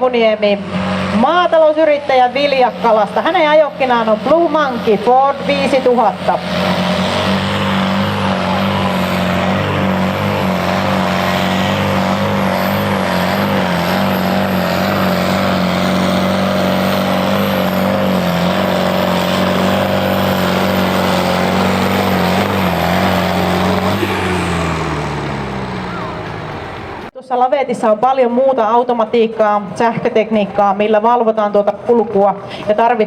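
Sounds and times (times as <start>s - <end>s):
tractor engine at full throttle: 0.0s - 27.1s.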